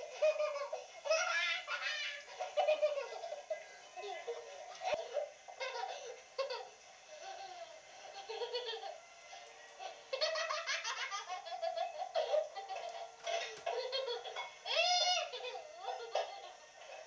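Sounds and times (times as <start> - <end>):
child giggling and laughing: 0.1 - 3.5, 4.8 - 9.0, 10.1 - 16.6.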